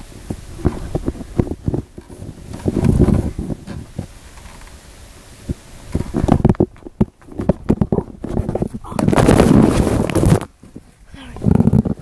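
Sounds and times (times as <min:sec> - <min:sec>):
rubbing and rustling on microphone: 0:00.0 - 0:12.0.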